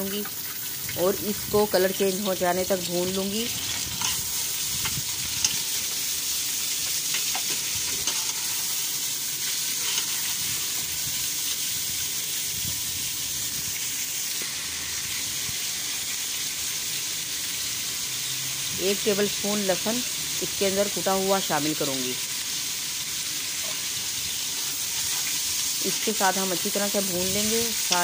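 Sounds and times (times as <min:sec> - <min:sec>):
meat and onions sizzling: 0:00.0 - 0:28.0.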